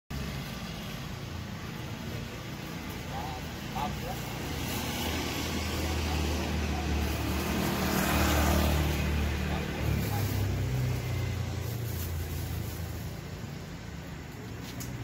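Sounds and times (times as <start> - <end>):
vehicle engine humming: 0.1 - 15.0
vehicle passing: 0.1 - 15.0.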